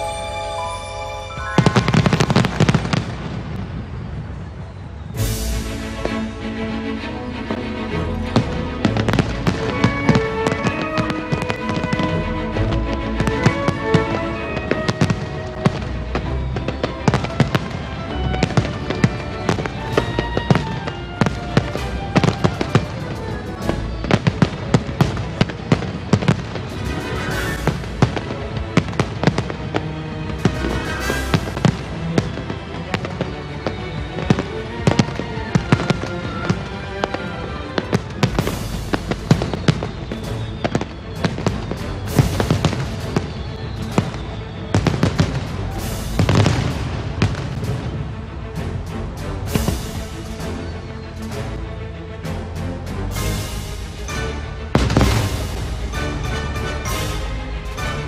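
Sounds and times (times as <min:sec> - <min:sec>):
firework crackles: 0:00.0 - 0:06.6, 0:07.5 - 0:51.4, 0:53.1 - 0:58.0
music: 0:00.0 - 0:58.0
fireworks bursting with bangs: 0:01.3 - 0:06.3, 0:08.2 - 0:12.4, 0:13.2 - 0:51.4, 0:53.1 - 0:58.0.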